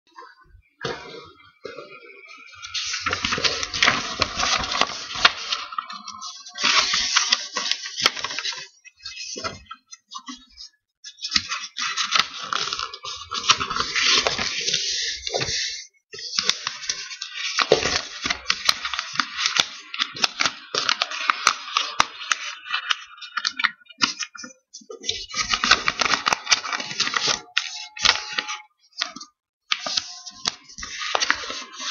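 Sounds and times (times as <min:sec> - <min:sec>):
paper rustling and crinkling: 0:01.7 - 0:31.9
paper crease clicks: 0:02.3 - 0:31.9.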